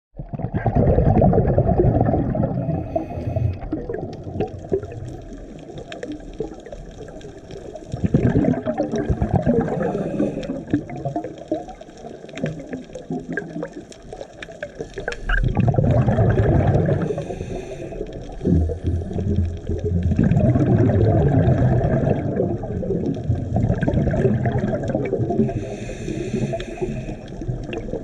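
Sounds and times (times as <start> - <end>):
quiet water noise: 0.2 - 28.0
surges of exhaled bubbles: 0.2 - 28.0
underwater bubbling and gurgling: 0.2 - 28.0.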